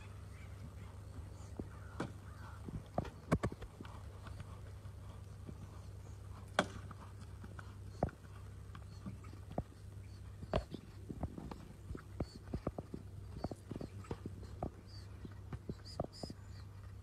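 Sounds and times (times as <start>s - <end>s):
horse hooves on sand: 0.0s - 17.0s
steady low hum: 0.0s - 17.0s.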